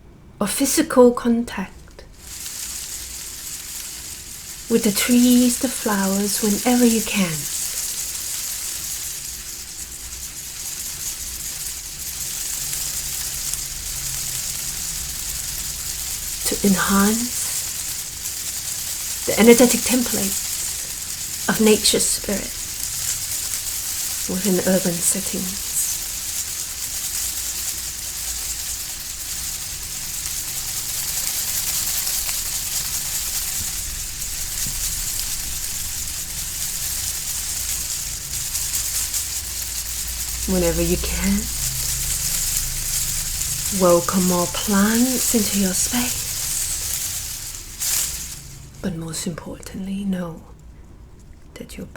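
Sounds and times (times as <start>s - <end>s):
high-pitched hiss: 0.0s - 49.4s.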